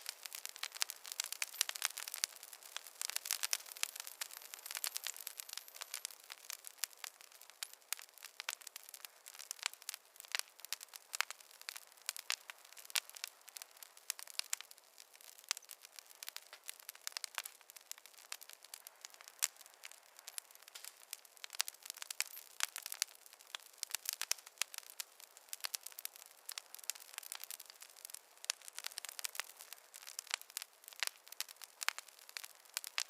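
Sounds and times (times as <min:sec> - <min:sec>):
faint hiss: 0:00.0 - 0:33.0
fire crackling and popping: 0:00.0 - 0:33.0.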